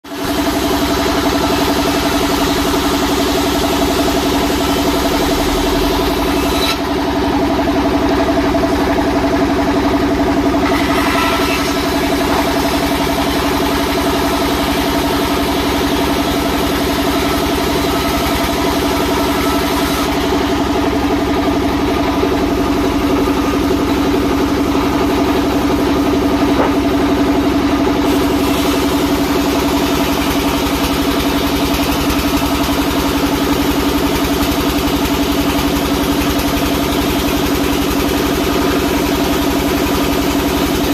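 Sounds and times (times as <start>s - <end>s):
sawmill machinery humming: 0.1s - 40.9s.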